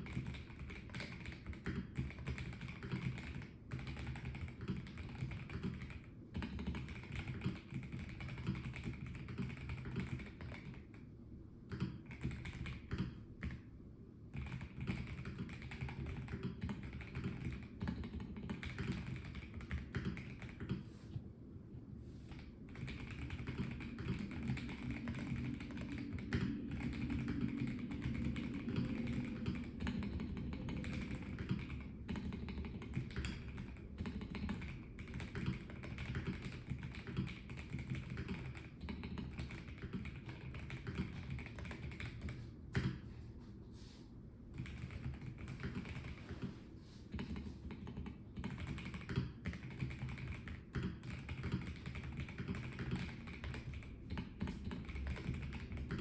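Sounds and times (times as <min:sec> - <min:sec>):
mechanical keyboard typing: 0:00.0 - 0:11.0, 0:11.7 - 0:13.6, 0:14.3 - 0:20.8, 0:22.3 - 0:43.0, 0:44.6 - 0:46.5, 0:47.1 - 0:56.0.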